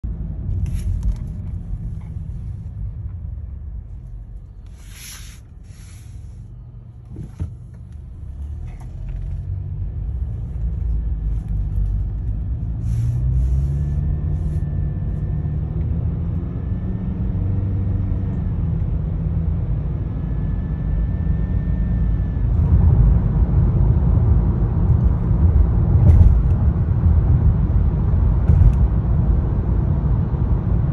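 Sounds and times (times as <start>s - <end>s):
car engine and road rumble: 0.0s - 30.9s.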